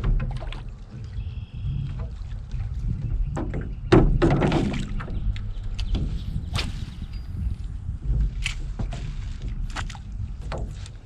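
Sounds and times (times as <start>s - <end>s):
sharp knocks in rowboat: 0.0s - 11.0s
wind buffeting microphone: 0.0s - 11.0s.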